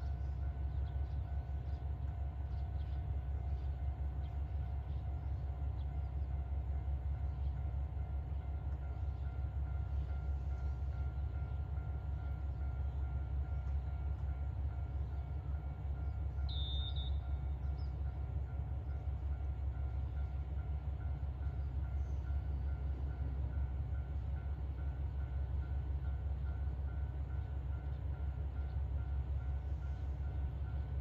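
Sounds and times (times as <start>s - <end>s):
diesel railcar engine rumble: 0.0s - 31.0s.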